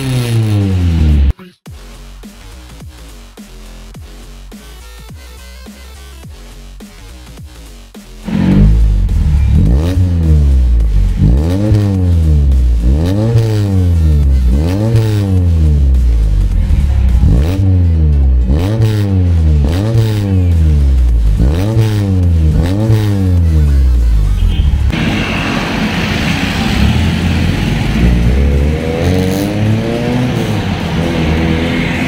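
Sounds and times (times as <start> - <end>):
car engine revving: 0.0 - 1.3, 6.4 - 32.0.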